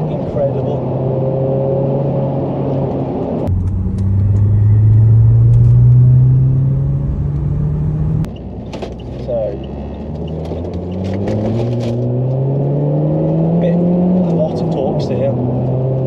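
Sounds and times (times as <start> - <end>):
car engine accelerating hard: 0.0 - 8.3, 9.4 - 16.0.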